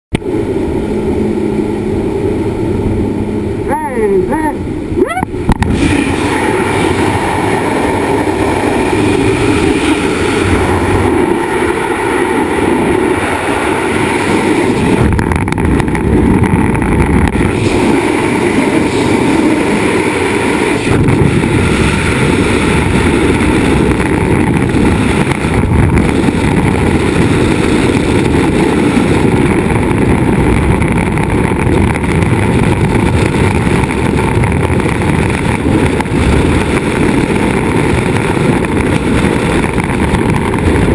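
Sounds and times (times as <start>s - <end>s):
wind buffeting a microphone: 0.2s - 40.9s.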